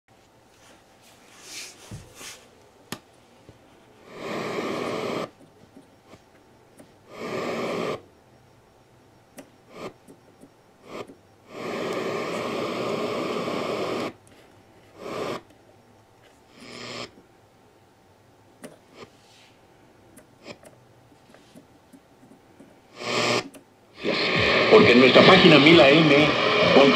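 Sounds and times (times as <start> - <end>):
radio static hiss: 1.4 - 17.2, 18.6 - 26.9.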